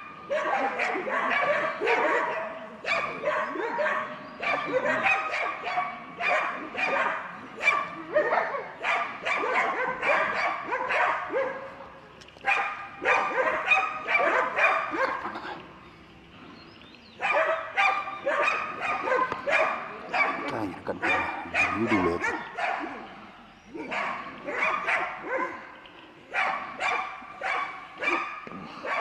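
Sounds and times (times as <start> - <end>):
dogs barking: 0.0 - 15.7, 17.1 - 29.0.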